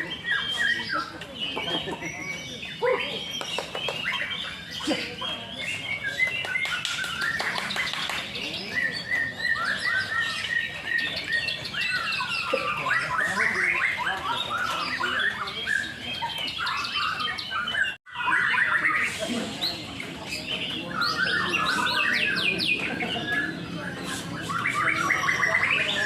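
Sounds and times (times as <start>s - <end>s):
songbirds whistling together: 0.0s - 26.0s.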